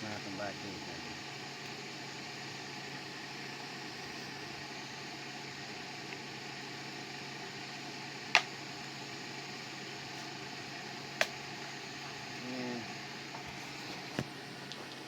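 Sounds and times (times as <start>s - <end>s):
steady fan-like hiss: 0.0s - 15.0s.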